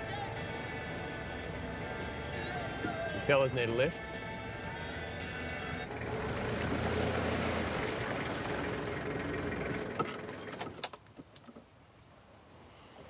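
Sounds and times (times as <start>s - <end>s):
road noise rushing: 0.0s - 10.9s
truck engine hum: 0.0s - 11.2s.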